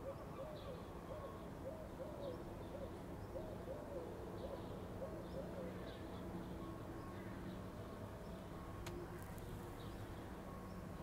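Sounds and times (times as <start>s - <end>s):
low city hum: 0.0s - 11.0s
small birds chirping: 0.0s - 11.0s.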